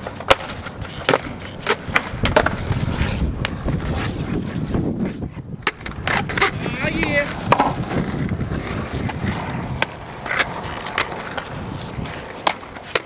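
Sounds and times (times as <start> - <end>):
skateboard clacks: 0.0 - 13.0
skateboard wheels rolling on asphalt: 0.0 - 13.0.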